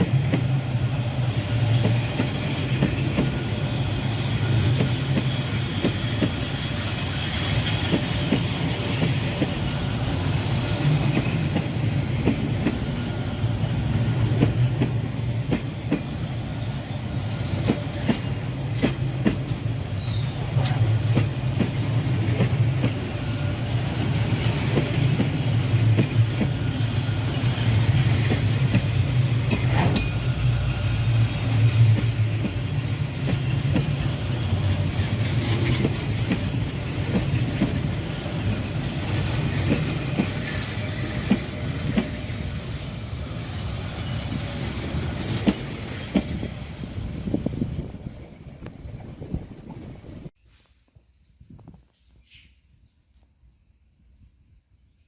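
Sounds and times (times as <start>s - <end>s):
freight train rumbling past: 0.0s - 50.4s.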